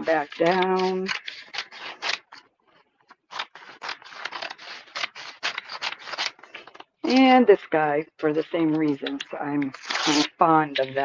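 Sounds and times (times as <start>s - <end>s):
scissors snipping paper: 0.0s - 2.4s, 3.2s - 7.4s, 8.6s - 11.0s.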